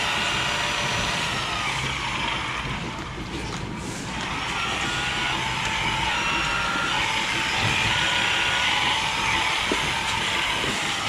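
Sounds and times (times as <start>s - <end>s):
milking machinery hissing: 0.0s - 11.0s.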